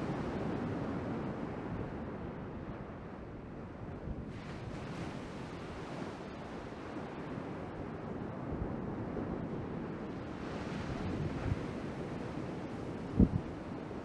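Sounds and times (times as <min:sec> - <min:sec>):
ocean surf washing: 0:00.0 - 0:14.0
wind buffeting microphone: 0:00.0 - 0:14.0.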